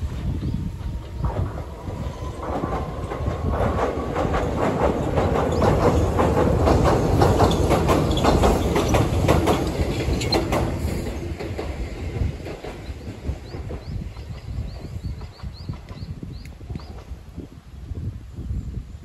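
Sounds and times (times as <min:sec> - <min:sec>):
wheels clicking over rail joints: 0:00.0 - 0:17.3
train rumbling on steel bridge: 0:00.0 - 0:19.0.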